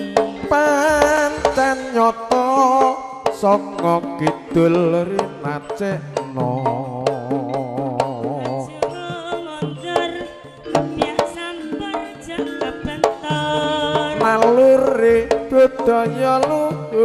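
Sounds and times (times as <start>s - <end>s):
hand drum strokes: 0.0s - 17.0s
metallophones and gongs: 0.0s - 17.0s.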